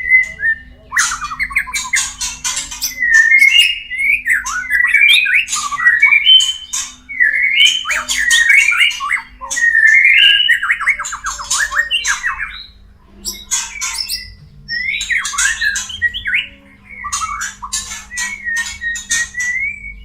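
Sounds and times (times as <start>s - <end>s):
bird calls rattling and whistling: 0.0s - 20.0s.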